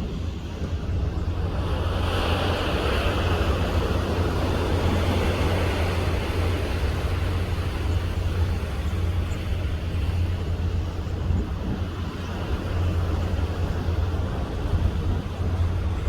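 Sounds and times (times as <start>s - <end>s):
boat engine rumble: 0.0s - 16.0s
wind and sea noise: 0.0s - 16.0s.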